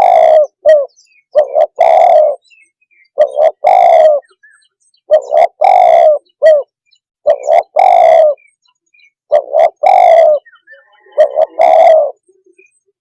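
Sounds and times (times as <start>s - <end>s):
dove cooing: 0.0s - 8.5s, 9.3s - 13.0s.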